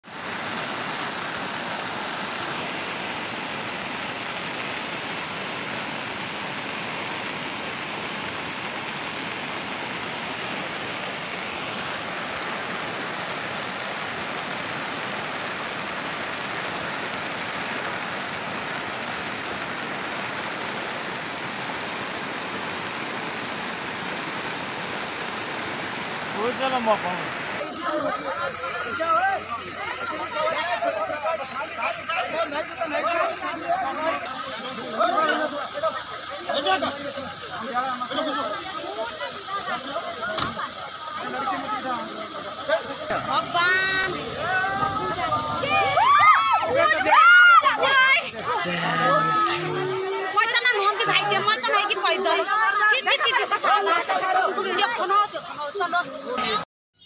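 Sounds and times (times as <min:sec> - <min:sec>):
flood water rushing: 0:00.0 - 0:56.6.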